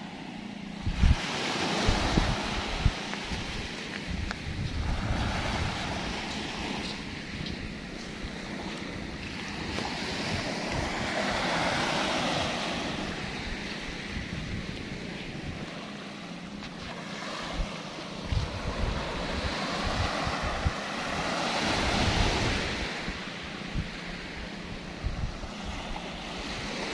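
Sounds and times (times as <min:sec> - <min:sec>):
small waves breaking on beach: 0:00.0 - 0:26.9
wind buffeting microphone: 0:00.6 - 0:26.9.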